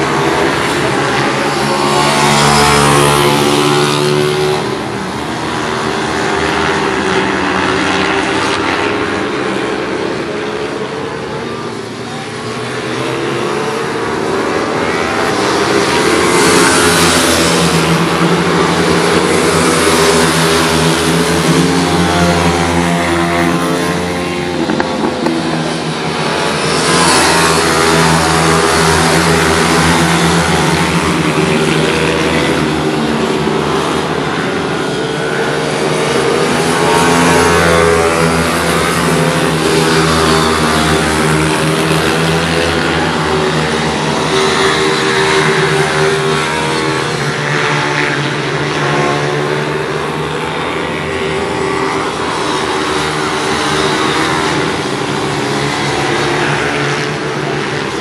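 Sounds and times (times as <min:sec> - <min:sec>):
pit bike engines revving: 0:00.0 - 0:58.0.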